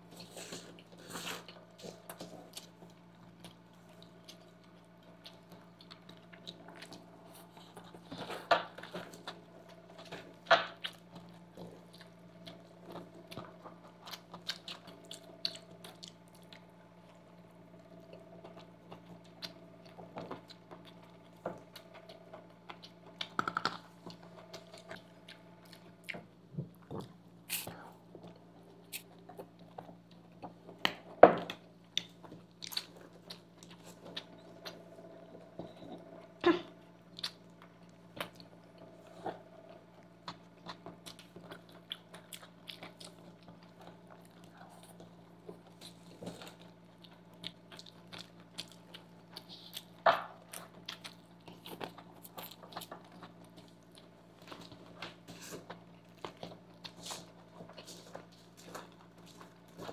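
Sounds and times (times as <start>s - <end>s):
low steady hum: 0.0s - 59.9s
chewing noodles: 0.1s - 59.9s.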